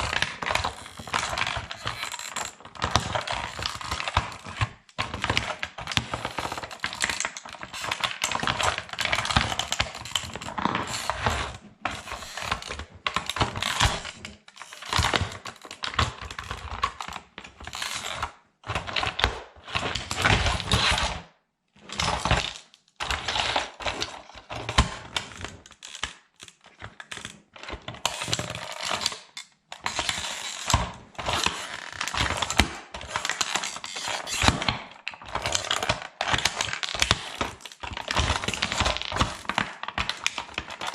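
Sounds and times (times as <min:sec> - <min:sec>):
plastic toy cracking underfoot: 0:00.0 - 0:21.0, 0:21.8 - 0:40.9.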